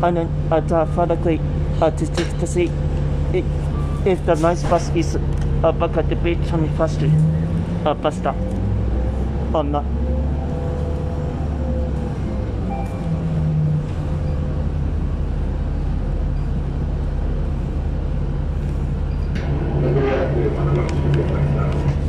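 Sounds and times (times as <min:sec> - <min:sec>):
bus engine hum: 0:00.0 - 0:22.0.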